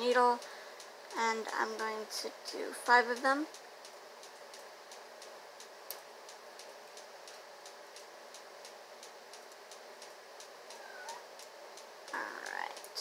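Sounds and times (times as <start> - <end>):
faint ticking: 0.0 - 13.0.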